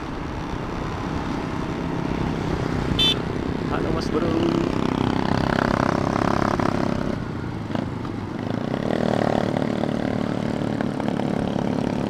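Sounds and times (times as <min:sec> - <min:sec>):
motorcycle engine running: 0:00.6 - 0:12.0.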